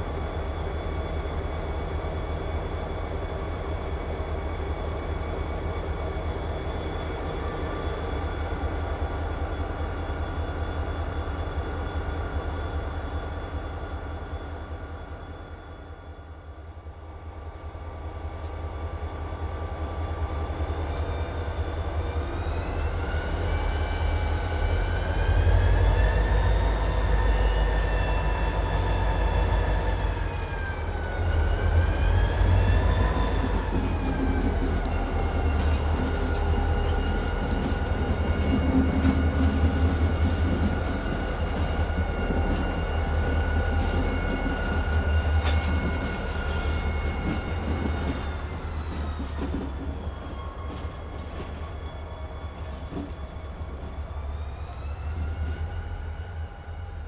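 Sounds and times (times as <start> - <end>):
locomotive high whine: 0.0 - 57.0.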